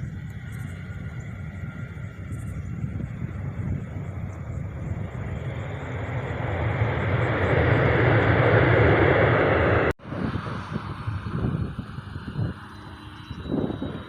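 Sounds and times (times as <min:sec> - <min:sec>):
airliner engine rush: 0:00.0 - 0:14.0.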